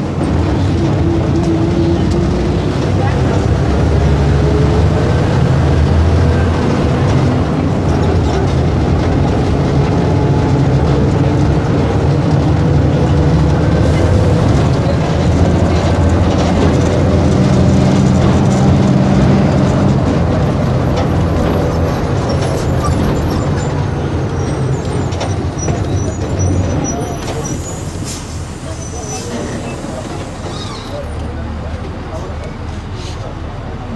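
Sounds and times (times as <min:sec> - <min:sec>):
bus diesel engine droning: 0:00.0 - 0:33.9.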